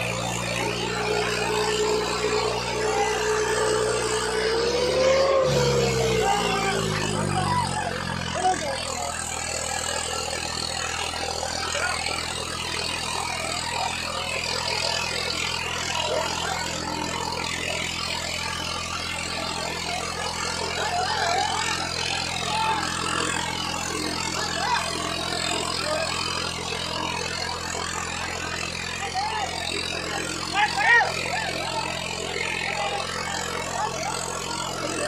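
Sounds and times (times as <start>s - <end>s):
crowd shouting: 0.0s - 35.0s
tractor diesel engine running: 0.0s - 35.0s.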